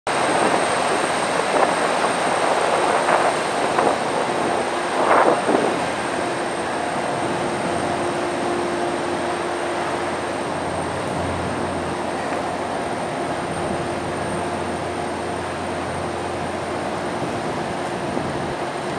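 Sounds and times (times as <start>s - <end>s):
ferry engines: 0.1s - 18.9s
moving water: 0.1s - 18.9s
steady hum: 0.1s - 18.9s.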